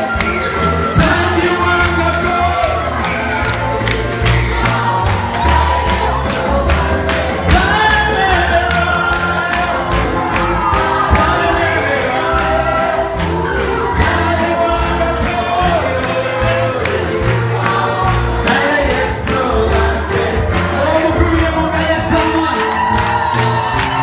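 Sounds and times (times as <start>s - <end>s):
amplified band: 0.0s - 24.0s
bass line: 0.0s - 24.0s
group of voices singing: 0.0s - 24.0s
steady drum beat: 0.0s - 24.0s.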